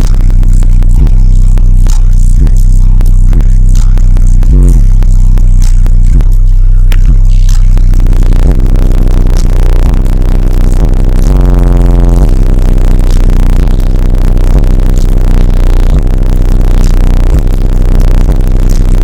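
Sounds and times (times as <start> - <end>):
loud distorted bass music: 0.0 - 19.0.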